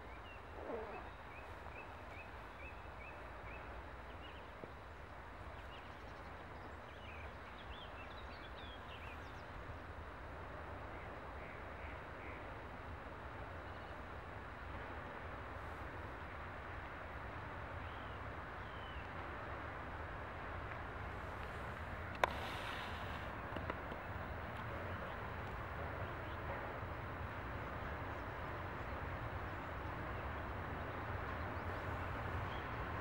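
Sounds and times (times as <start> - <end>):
distant freight train rumble: 0.0 - 33.0.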